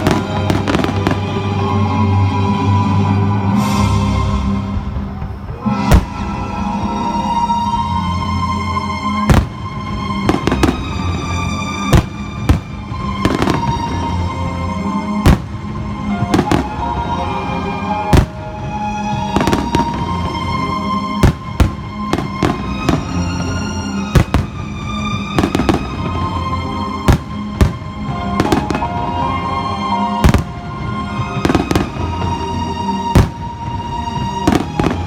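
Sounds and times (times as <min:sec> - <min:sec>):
fireworks bursting with sharp bangs: 0:00.0 - 0:07.6, 0:08.9 - 0:35.0
loud music: 0:00.0 - 0:35.0.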